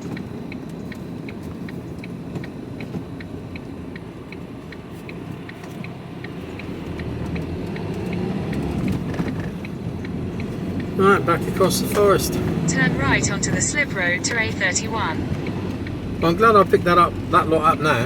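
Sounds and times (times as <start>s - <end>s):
diesel engine rumble: 0.0s - 18.0s
turn indicator ticking: 0.0s - 18.0s.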